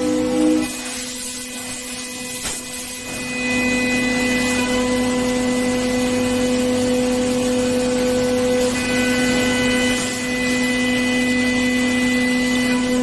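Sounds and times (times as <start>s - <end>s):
milling machine cutting metal: 0.0s - 13.0s.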